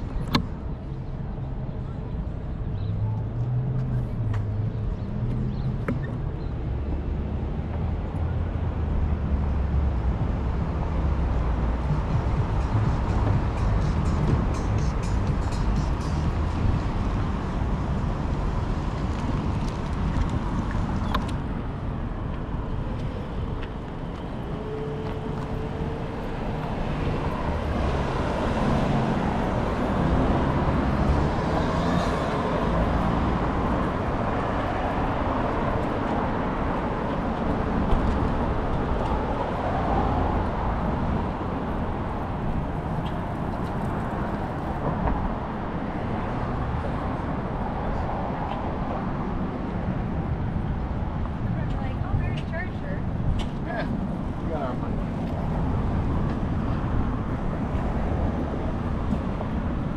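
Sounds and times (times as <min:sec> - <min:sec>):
city street traffic: 0:00.0 - 0:59.9
wind rumble on microphone: 0:00.0 - 0:59.9.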